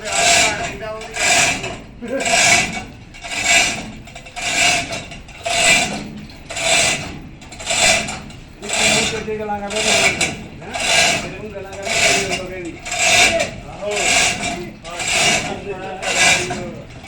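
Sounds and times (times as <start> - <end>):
rasping scrape at metal lathe: 0.0 - 17.0.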